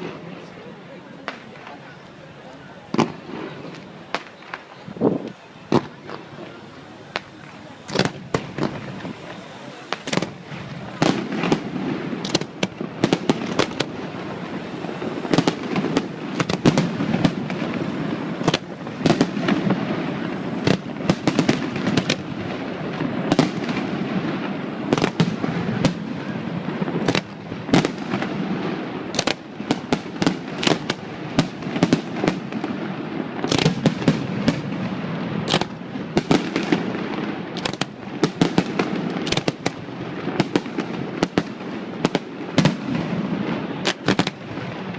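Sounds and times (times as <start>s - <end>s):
fireworks sharp bangs: 0.0s - 44.9s
rumble of fireworks booms: 0.0s - 44.9s.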